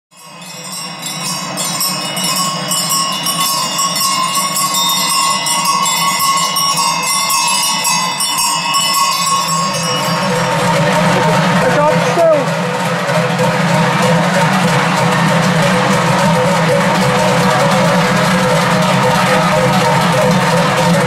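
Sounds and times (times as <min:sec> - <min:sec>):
livestock bells clanging: 0:00.1 - 0:21.0.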